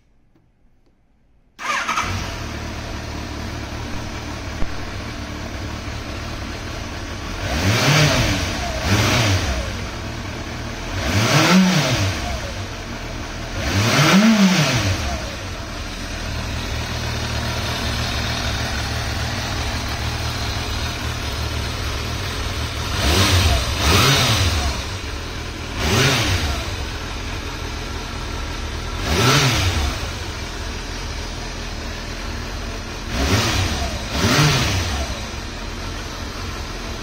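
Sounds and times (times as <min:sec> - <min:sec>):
motorcycle engine idling and revving: 0:01.6 - 0:37.0.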